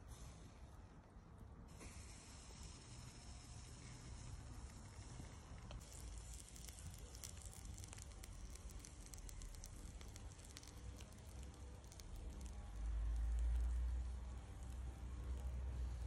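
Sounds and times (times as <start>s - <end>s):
meat sizzling over charcoal: 1.7s - 16.0s.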